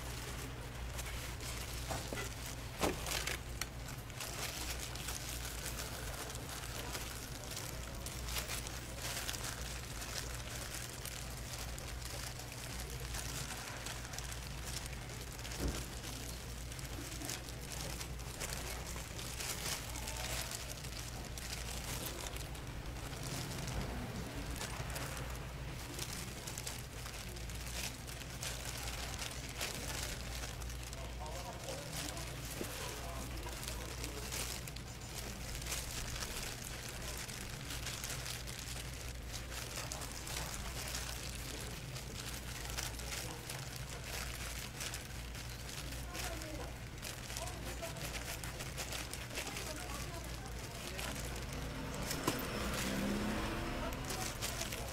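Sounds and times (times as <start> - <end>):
plastic gloves crinkling: 0.0 - 54.9.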